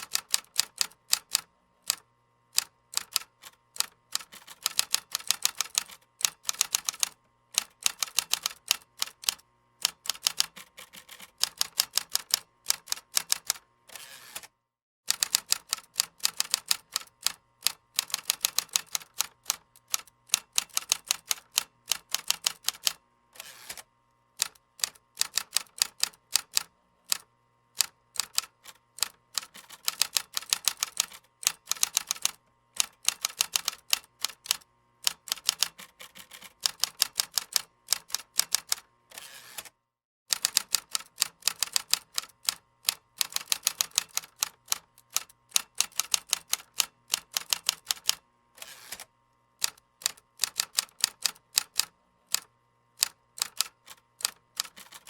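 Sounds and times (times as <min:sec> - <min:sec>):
computer keyboard typing: 0:00.0 - 0:02.0, 0:02.6 - 0:13.6, 0:15.1 - 0:23.0, 0:24.4 - 0:27.2, 0:27.8 - 0:38.8, 0:40.3 - 0:48.2, 0:48.9 - 0:55.0.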